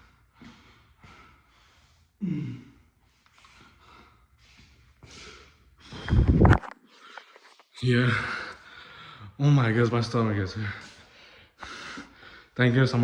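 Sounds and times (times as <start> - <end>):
man breathing hard: 0.0 - 9.4, 10.7 - 12.6.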